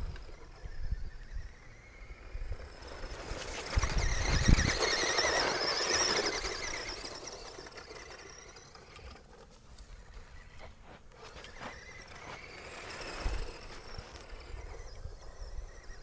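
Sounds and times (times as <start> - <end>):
toy car motor whining: 0.0 - 16.0.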